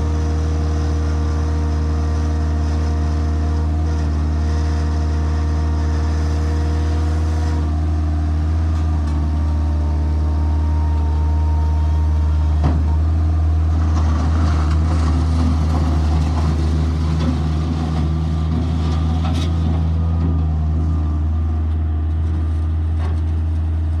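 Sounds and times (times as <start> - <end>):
skid steer engine running: 0.0 - 24.0.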